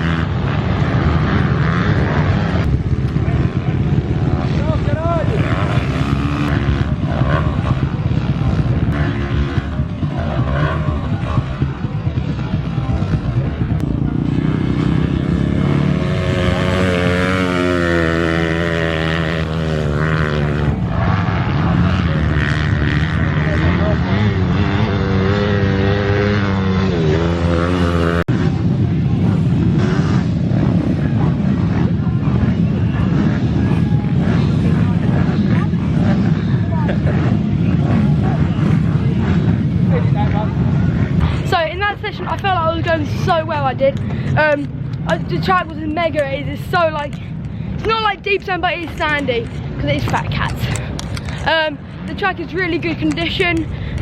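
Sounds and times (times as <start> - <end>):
pit bike engines revving: 0.0 - 54.0.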